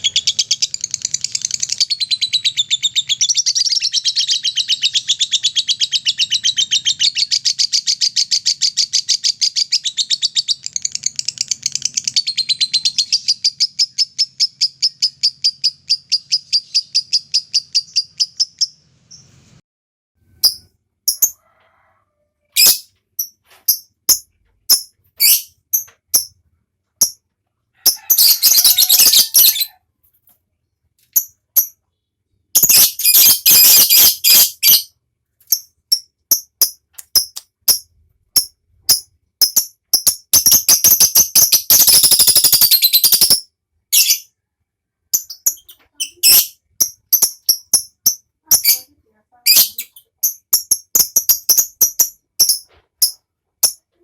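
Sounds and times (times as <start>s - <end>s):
lovebird chirping and trilling: 0.0s - 19.6s, 20.3s - 21.4s, 22.5s - 26.4s, 27.0s - 27.2s, 27.8s - 29.8s, 31.1s - 44.4s, 45.1s - 53.9s.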